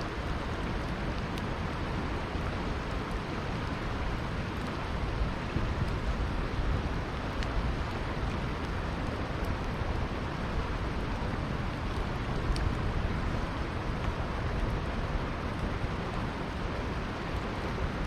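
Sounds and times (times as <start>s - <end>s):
faint campfire crackles: 0.0s - 18.0s
river flowing: 0.0s - 18.0s.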